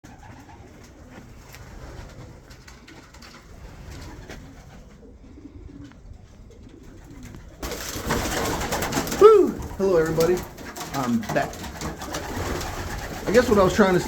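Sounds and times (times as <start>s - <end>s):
pigeons cooing: 0.1s - 14.0s.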